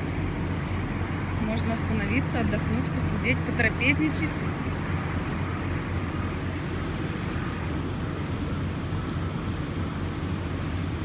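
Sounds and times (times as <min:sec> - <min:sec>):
diesel trucks idling: 0:00.0 - 0:11.0.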